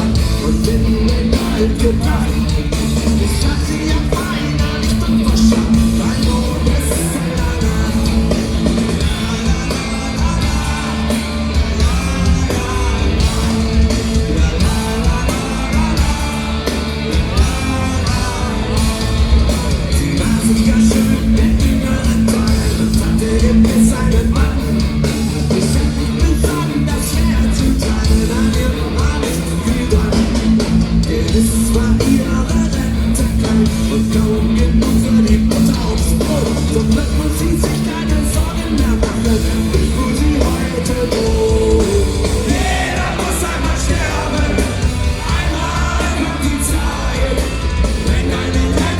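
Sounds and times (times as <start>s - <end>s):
bass: 0.0s - 48.9s
distorted electric guitars: 0.0s - 48.9s
drums: 0.0s - 48.9s
shouted singing: 0.0s - 48.9s.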